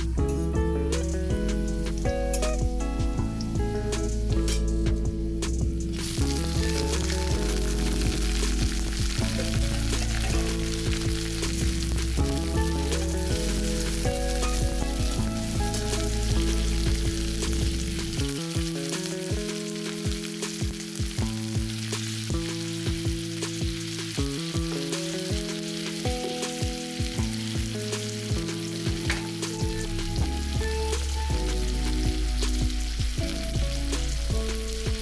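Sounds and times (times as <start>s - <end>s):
background music: 0.0s - 35.0s
food sizzling in a pan: 0.9s - 35.0s.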